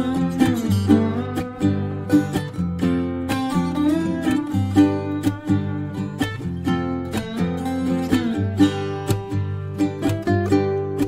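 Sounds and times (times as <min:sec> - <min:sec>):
plucked string instrument tune: 0:00.0 - 0:11.0.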